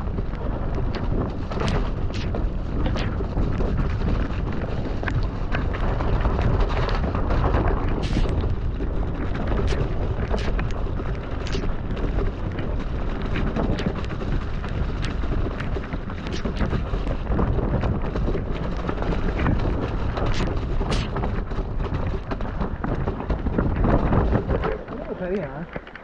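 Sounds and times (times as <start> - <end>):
bike knocking and clattering: 0.0 - 26.0
bike tyres rumbling on mud: 0.0 - 26.0
wind buffeting microphone: 0.0 - 26.0.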